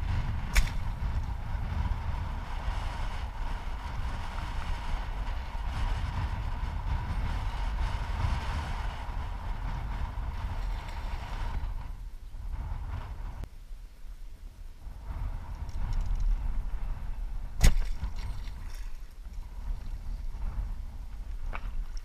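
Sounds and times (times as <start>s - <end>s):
wind buffeting microphone: 0.0s - 13.5s, 14.3s - 22.0s.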